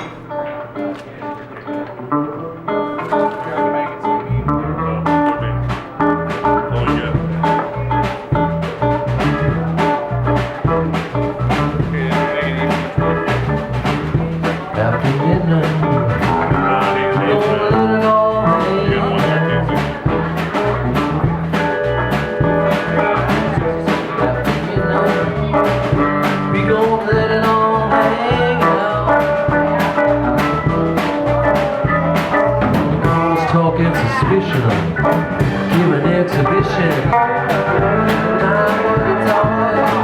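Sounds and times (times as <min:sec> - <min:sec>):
drums steady beat: 0:00.0 - 0:00.3, 0:05.0 - 0:40.0
bass guitar: 0:00.0 - 0:40.0
electric guitar: 0:00.0 - 0:40.0.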